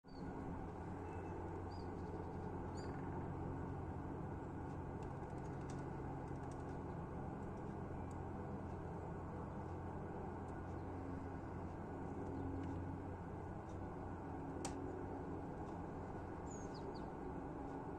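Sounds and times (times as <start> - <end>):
steady low rumble: 0.1 - 17.9.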